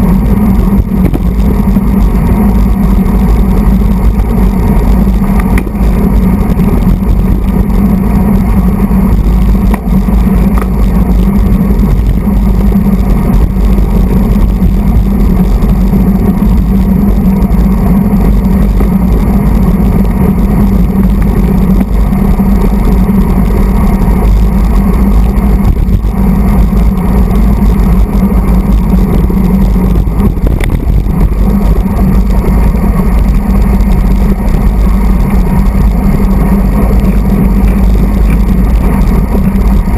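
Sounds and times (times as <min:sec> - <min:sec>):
low road rumble: 0:00.0 - 0:39.9
wind buffeting microphone: 0:00.0 - 0:39.9.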